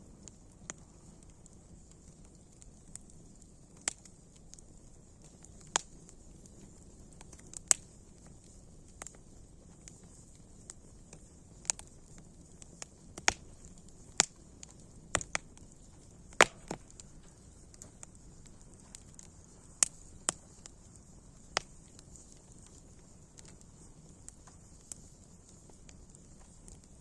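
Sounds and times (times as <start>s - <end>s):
faint steady hiss: 0.0s - 27.0s
wood fire crackling: 0.0s - 27.0s.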